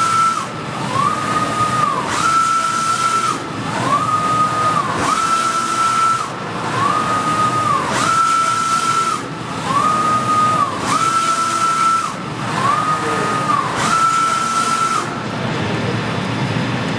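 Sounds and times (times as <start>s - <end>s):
printer carriage motor whining: 0.0s - 15.9s.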